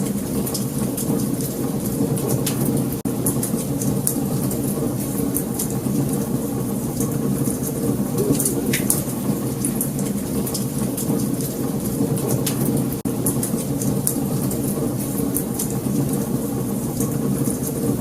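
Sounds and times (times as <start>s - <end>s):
wood fire rumbling: 0.0s - 18.0s.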